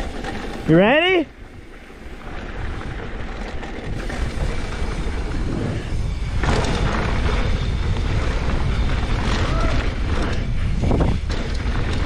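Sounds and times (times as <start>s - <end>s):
bike tyres rolling on dirt: 0.0s - 12.0s
wind rushing over microphone: 1.4s - 12.0s.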